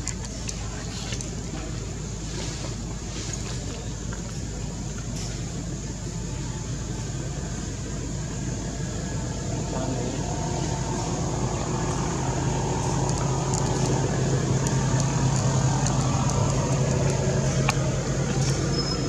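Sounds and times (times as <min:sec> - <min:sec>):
engine running drone: 0:00.0 - 0:19.0.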